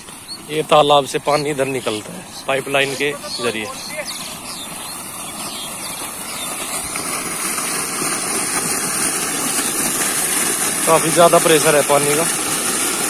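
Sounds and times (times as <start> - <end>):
water gushing and splashing: 0.0 - 13.0.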